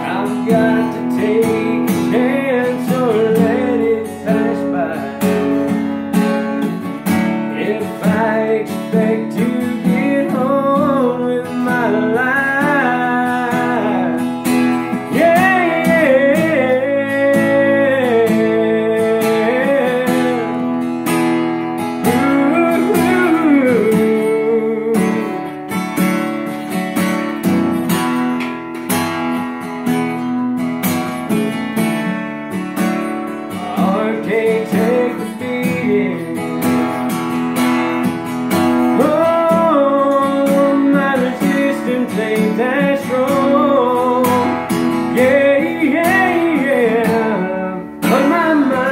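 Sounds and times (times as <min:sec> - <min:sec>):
man singing: 0:00.0 - 0:25.7, 0:33.3 - 0:37.2, 0:38.0 - 0:48.9
acoustic guitar strumming: 0:00.0 - 0:48.9.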